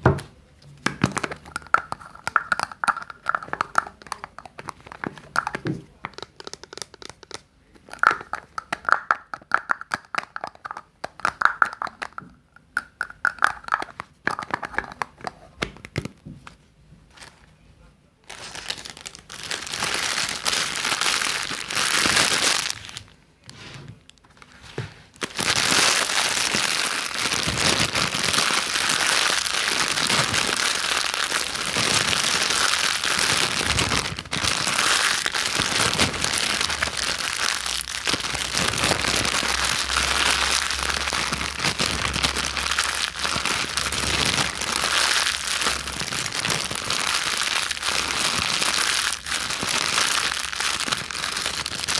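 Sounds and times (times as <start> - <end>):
close crinkling and crackling: 0.0 - 12.2, 13.2 - 51.9.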